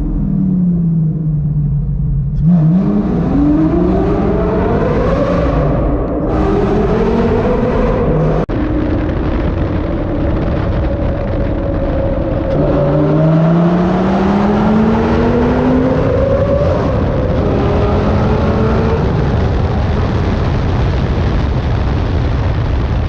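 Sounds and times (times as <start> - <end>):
sports car engine accelerating: 0.0 - 20.6.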